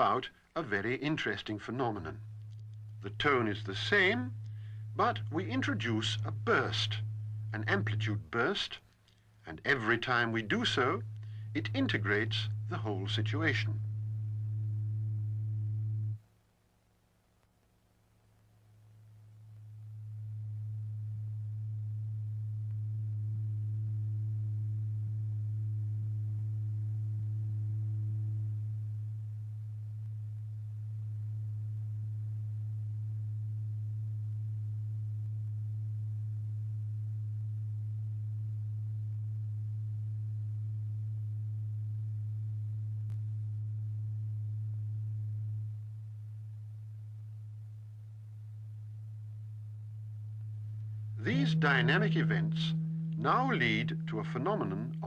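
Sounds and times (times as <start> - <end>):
low electronic test tone: 0.0 - 8.8, 9.5 - 16.8, 18.7 - 55.0.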